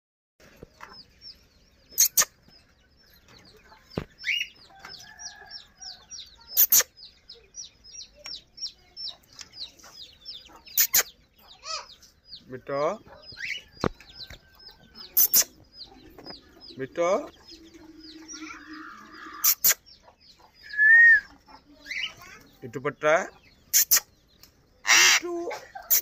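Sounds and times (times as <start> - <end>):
small birds cheeping: 0.4 - 26.0.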